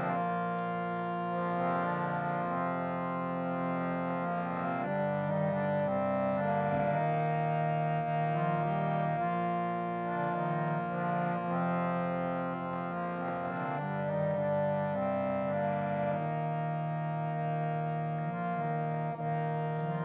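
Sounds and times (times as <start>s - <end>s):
harmonium melody: 0.0s - 20.0s.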